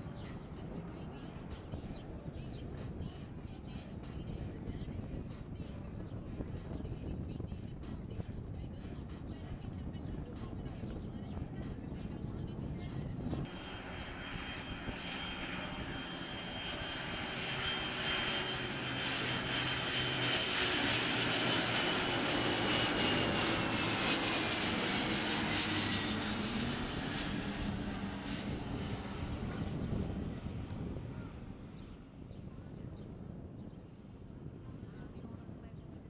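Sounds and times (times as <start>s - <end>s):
jet engines whining in flyby: 0.0s - 36.0s.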